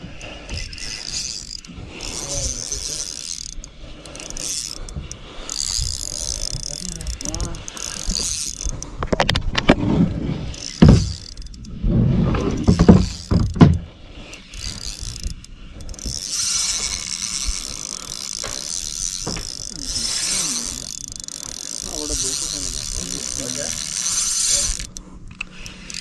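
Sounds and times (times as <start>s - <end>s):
fishing reel gears whirring: 0.0s - 26.0s.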